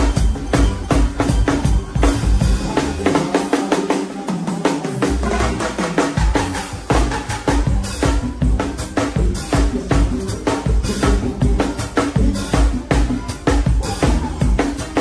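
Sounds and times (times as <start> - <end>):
bass notes: 0.0 - 3.2, 5.0 - 15.0
drum kit driving beat: 0.0 - 15.0
live band music: 0.0 - 15.0.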